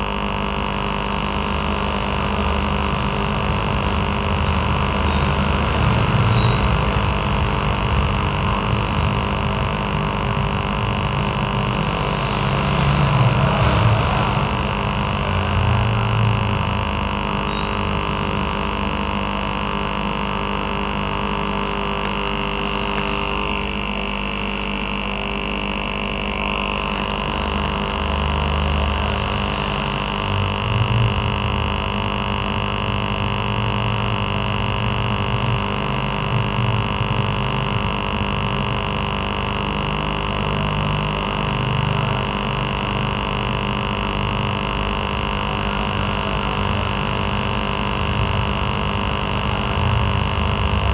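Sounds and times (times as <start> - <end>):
air pump humming: 0.0 - 50.9.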